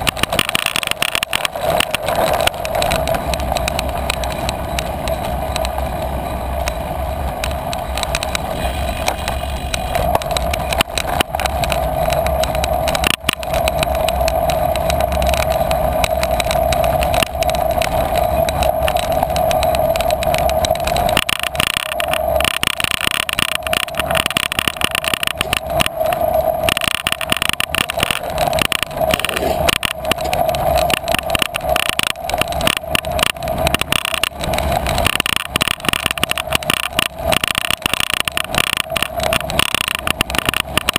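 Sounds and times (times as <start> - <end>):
steady hum: 0.0 - 40.9.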